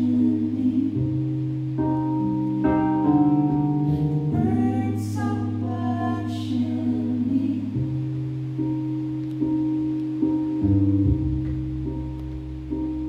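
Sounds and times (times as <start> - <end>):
electric keyboard notes: 0.0 - 13.0.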